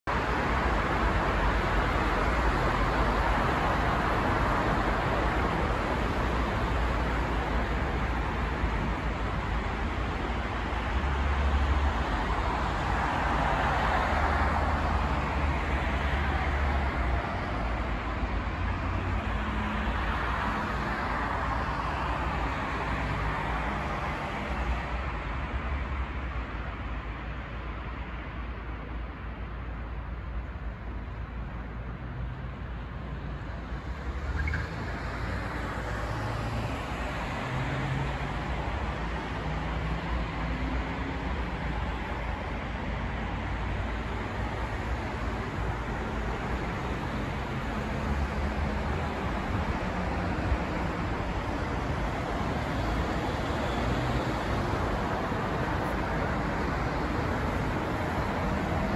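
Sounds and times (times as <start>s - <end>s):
city road traffic: 0.0s - 58.9s.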